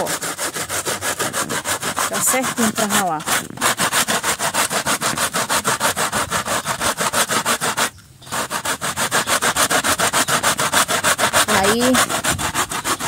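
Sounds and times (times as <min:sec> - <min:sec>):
dung rasping on metal grater: 0:00.0 - 0:13.0.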